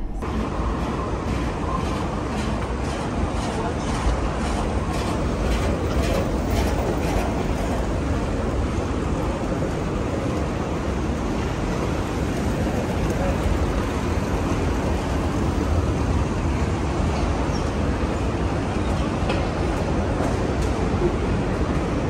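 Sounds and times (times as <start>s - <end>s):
underground station rumble and hiss: 0.0s - 22.0s.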